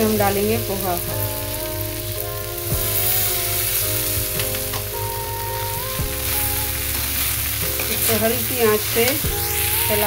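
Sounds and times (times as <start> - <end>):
food sizzling in oil in a pan: 0.0 - 10.0
instrumental background music: 0.0 - 10.0.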